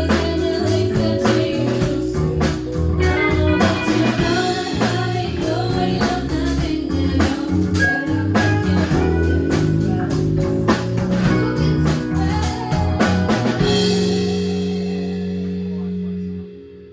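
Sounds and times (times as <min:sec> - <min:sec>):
band with guitar and drums: 0:00.0 - 0:16.9.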